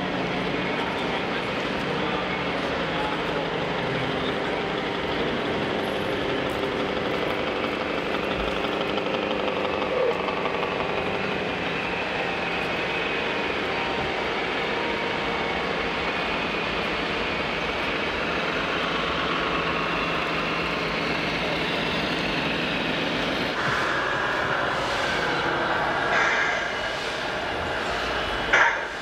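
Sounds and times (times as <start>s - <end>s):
toy truck engine rumble: 0.0s - 29.0s.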